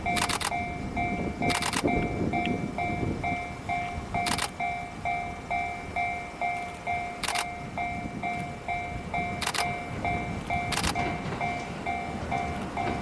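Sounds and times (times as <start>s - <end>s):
level crossing alarm ringing: 0.0s - 13.0s
low rail noise: 0.0s - 13.0s.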